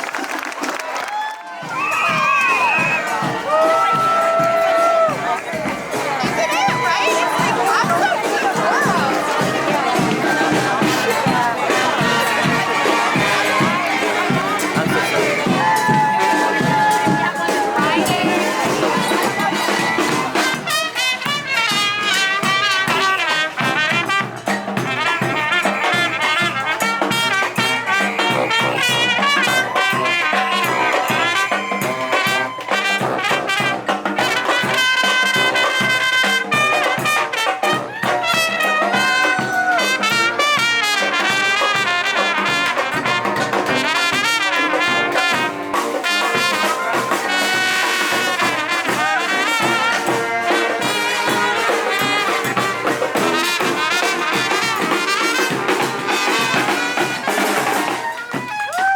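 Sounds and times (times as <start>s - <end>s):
brass horns playing a tune: 2.1s - 58.9s.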